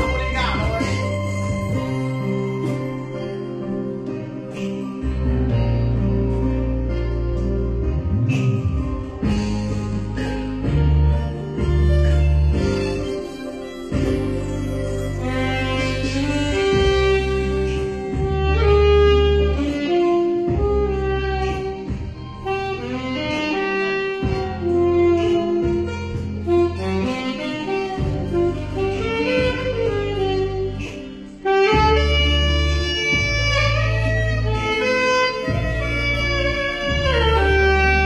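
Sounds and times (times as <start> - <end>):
alto saxophone melody: 0.0 - 38.0
held bass notes: 0.0 - 38.0.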